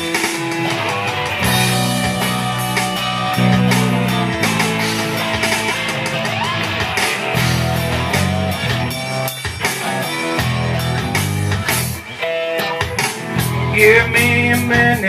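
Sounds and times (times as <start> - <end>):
bass: 0.0 - 15.0
drums: 0.0 - 15.0
electric guitar: 0.0 - 15.0.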